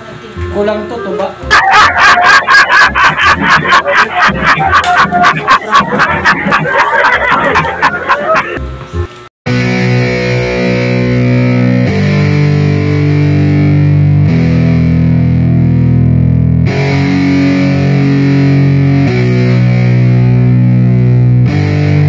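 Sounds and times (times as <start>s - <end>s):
distorted electric guitar chords: 1.4s - 22.0s.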